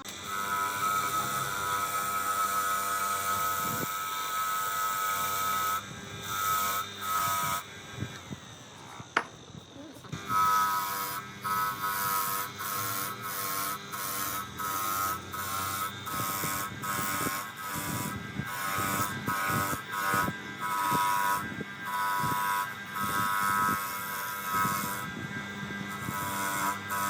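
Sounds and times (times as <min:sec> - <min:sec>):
electric grinder motor buzzing: 0:00.0 - 0:09.4, 0:10.0 - 0:27.0.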